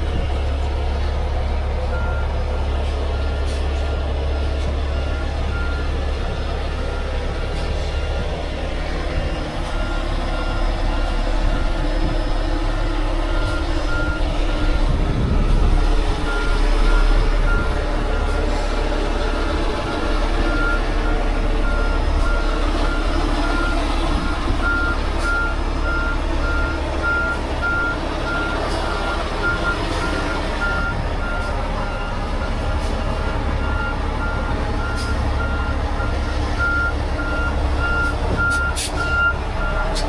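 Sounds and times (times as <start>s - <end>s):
truck engine running: 0.0s - 40.0s
truck reversing alarm beeps: 0.0s - 40.0s.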